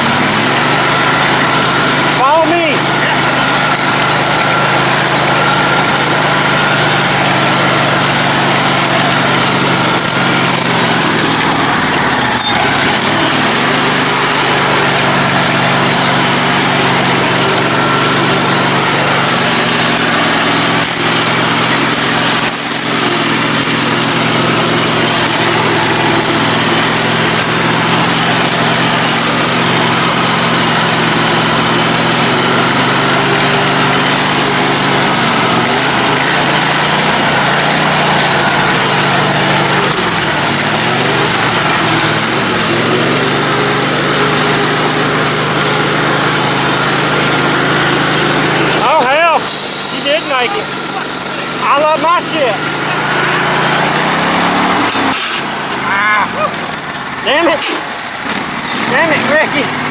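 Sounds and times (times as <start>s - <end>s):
riding lawn mower engine: 0.0s - 59.9s.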